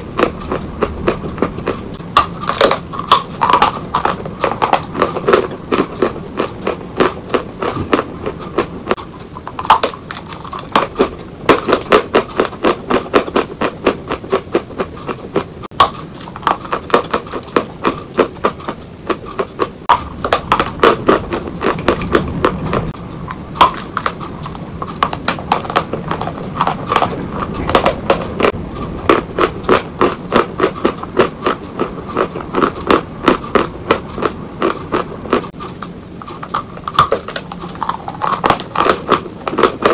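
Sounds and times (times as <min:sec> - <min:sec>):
crunchy chewing of chalk: 0:00.0 - 0:39.9.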